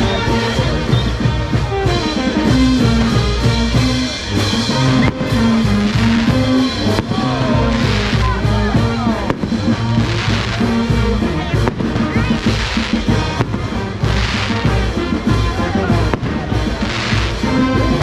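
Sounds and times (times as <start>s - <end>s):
brass band music: 0.0s - 18.0s
fireworks hissing and crackling: 0.0s - 18.0s.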